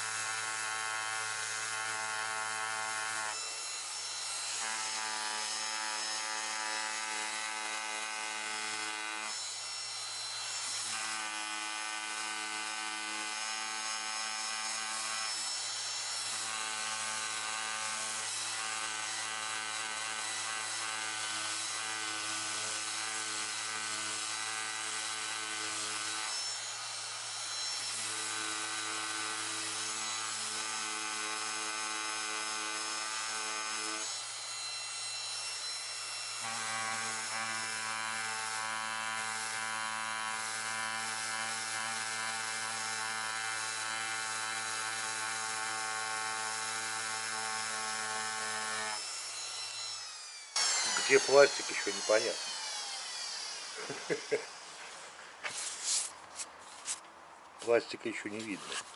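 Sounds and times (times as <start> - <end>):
orbital sander whining: 0.0 - 30.5, 32.8 - 56.2.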